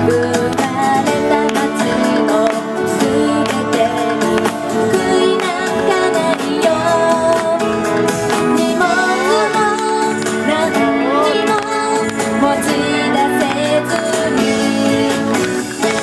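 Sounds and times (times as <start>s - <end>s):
pop backing track with beat: 0.0s - 16.0s
woman singing into a microphone: 0.0s - 16.0s.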